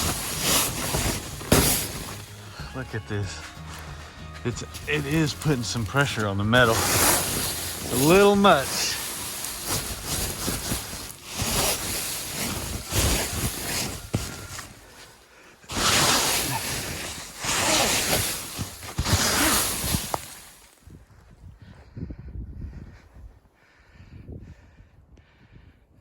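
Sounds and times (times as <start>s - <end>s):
footsteps crunching in snow: 0.0s - 20.9s.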